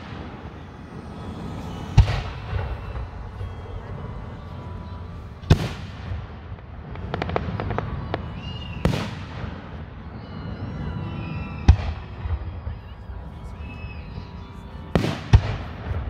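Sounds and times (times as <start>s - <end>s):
firework bangs: 0.0s - 16.0s
firework crackles: 0.0s - 16.0s.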